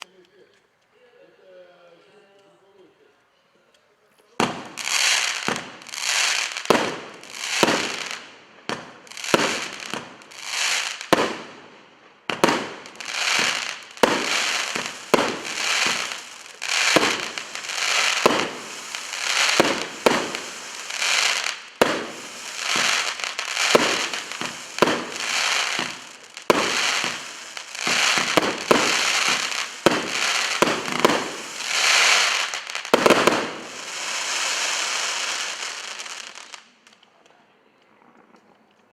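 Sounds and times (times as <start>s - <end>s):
firework bangs and crackling: 4.4s - 37.0s.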